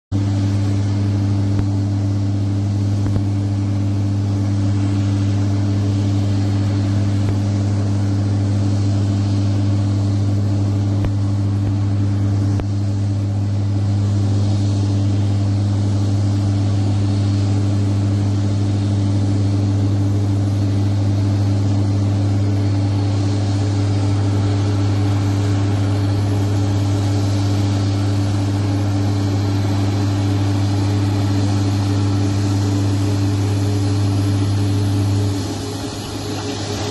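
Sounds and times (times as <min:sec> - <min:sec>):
loud machine drone: 0:00.2 - 0:36.9.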